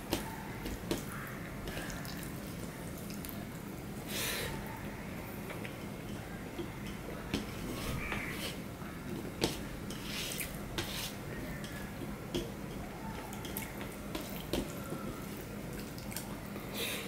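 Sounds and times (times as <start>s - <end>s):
fingers mixing wet rice: 0.0s - 3.5s, 5.5s - 16.5s.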